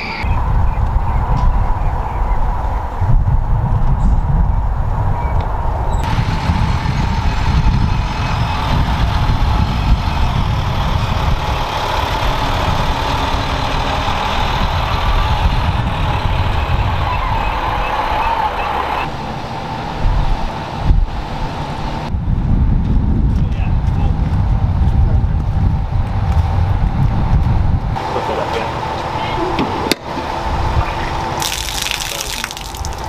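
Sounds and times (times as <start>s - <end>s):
truck diesel engine rumbling: 5.7s - 33.0s.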